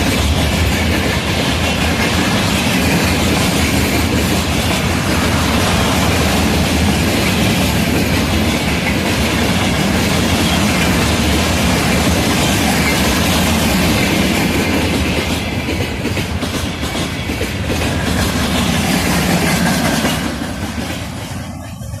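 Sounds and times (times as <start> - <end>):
train cars rattling: 0.0 - 22.0
train wheels clattering on rails: 0.0 - 22.0.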